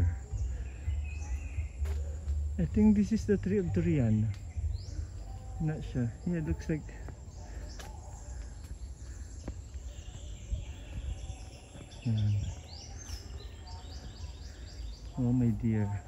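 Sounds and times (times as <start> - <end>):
bird chirping: 0.0 - 16.0
steady low rumble: 0.0 - 16.0.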